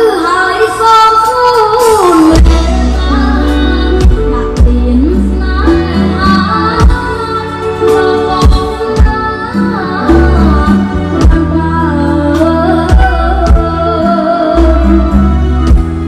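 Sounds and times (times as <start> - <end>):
boy singing into a microphone: 0.0 - 15.3
bass notes: 2.2 - 16.0.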